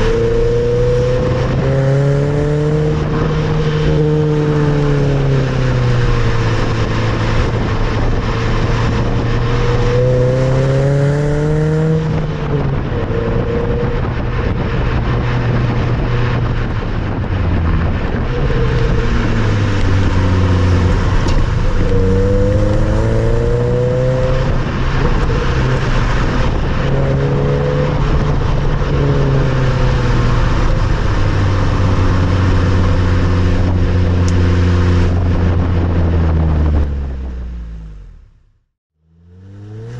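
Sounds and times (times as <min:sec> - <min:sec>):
car engine revving: 0:00.0 - 0:38.3, 0:39.0 - 0:39.9.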